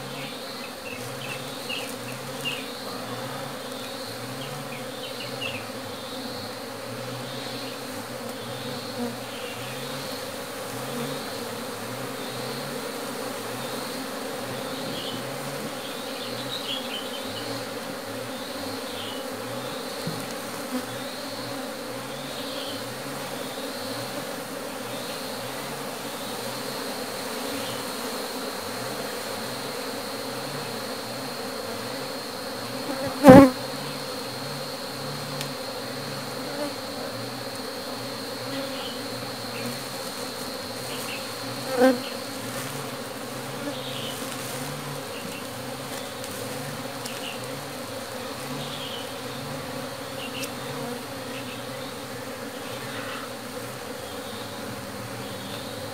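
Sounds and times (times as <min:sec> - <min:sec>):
honeybees buzzing: 0:00.0 - 0:55.9.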